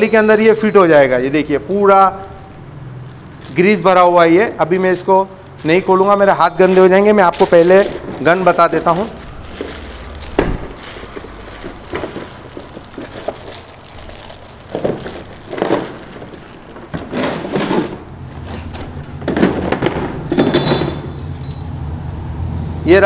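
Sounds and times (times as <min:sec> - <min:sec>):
plastic wrapping rustling: 0:01.4 - 0:20.0.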